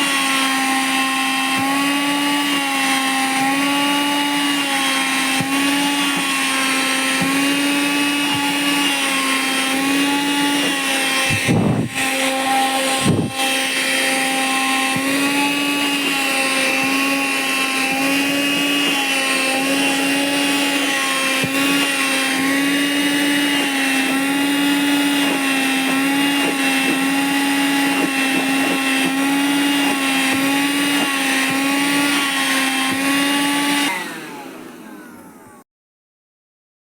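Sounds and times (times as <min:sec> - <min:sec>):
vacuum motor winding down: 0:00.0 - 0:35.6
vacuum cleaner running: 0:00.0 - 0:35.7.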